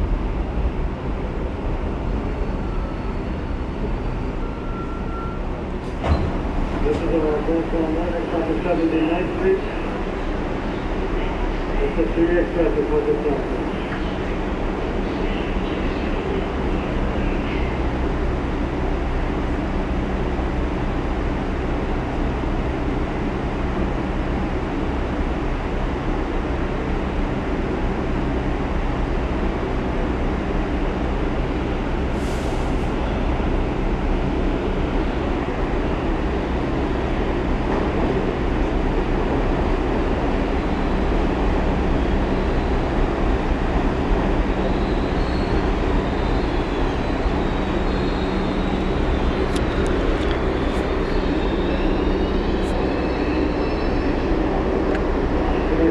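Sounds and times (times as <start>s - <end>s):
subway car wheels rumbling: 0.0s - 55.9s.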